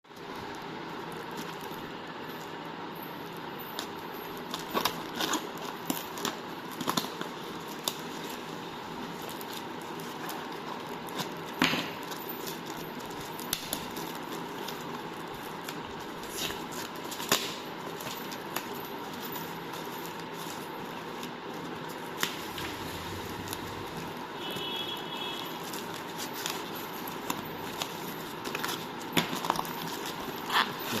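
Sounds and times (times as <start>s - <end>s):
parcel being unpacked: 0.2s - 24.4s, 25.3s - 31.0s.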